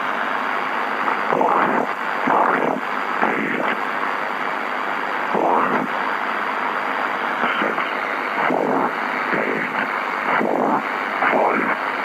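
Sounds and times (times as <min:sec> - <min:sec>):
radio static crackling hiss: 0:00.0 - 0:12.0.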